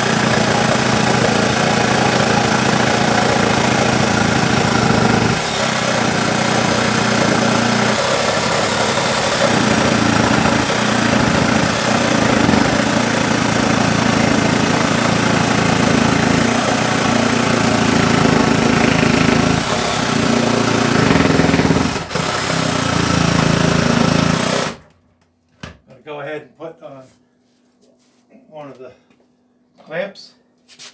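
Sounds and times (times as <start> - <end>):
reciprocating saw cutting plywood: 0.0 - 24.9.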